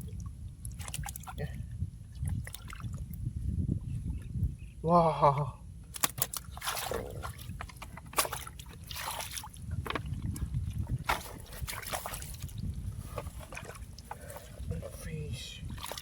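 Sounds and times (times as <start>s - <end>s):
splashing in muddy water: 0.0s - 3.2s, 5.9s - 16.0s.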